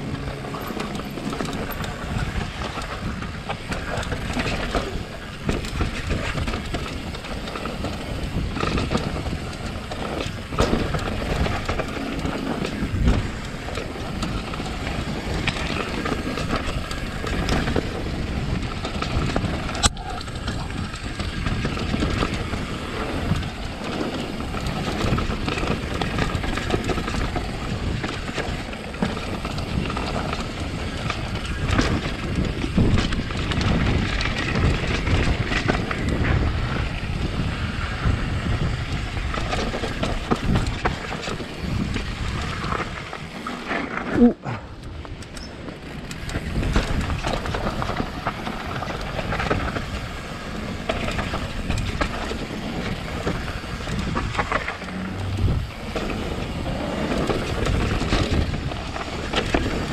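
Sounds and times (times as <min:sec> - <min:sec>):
mountain bike rattling over rocks: 0:00.0 - 0:59.9.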